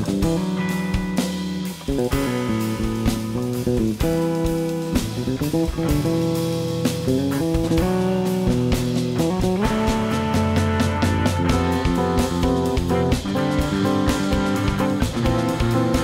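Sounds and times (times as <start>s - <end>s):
drum kit and cymbals: 0.0s - 16.0s
electric bass: 0.0s - 16.0s
electric guitar notes and chords: 0.0s - 16.0s.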